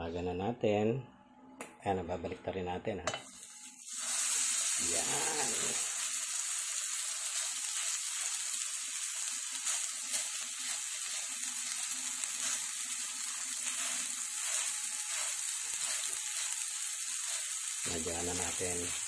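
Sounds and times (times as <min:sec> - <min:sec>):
burger patty sizzling in pan: 0:03.2 - 0:19.0.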